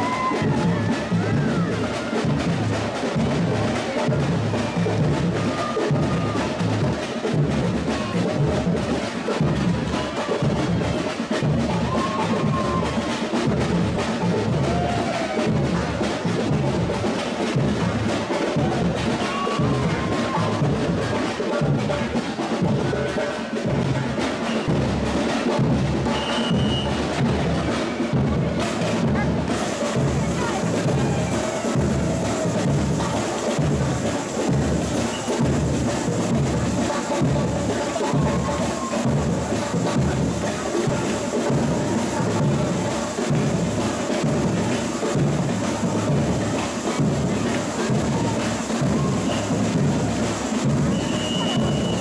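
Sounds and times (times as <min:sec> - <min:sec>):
bass drums pounding: 0:00.0 - 0:51.0
snare drums and percussion: 0:00.0 - 0:52.0.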